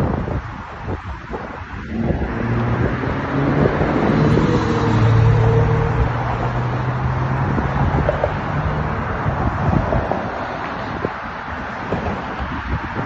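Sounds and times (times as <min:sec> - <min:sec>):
cars passing hum: 0:00.0 - 0:13.0
low traffic drone: 0:00.0 - 0:13.0.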